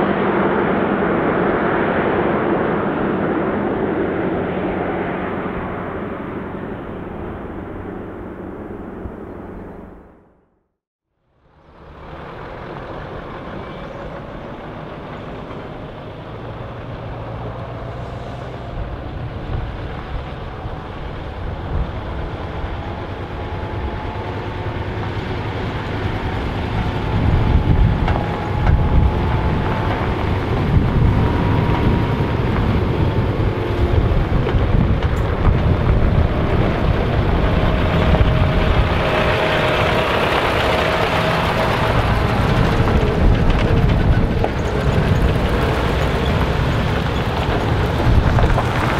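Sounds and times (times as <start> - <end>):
truck diesel engine under load: 0.0 - 10.4, 11.3 - 48.9.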